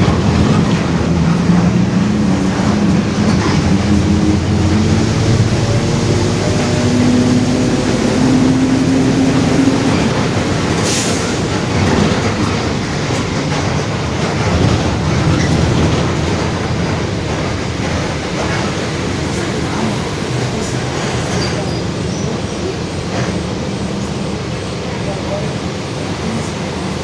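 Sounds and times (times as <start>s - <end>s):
bus differential droning: 0.0s - 22.3s
road and body rumble: 0.0s - 27.0s.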